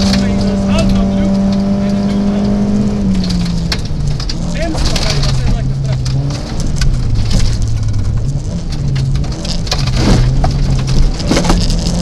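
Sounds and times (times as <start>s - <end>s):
car engine running hard: 0.0s - 12.0s
gravel pinging against car underbody: 0.0s - 12.0s.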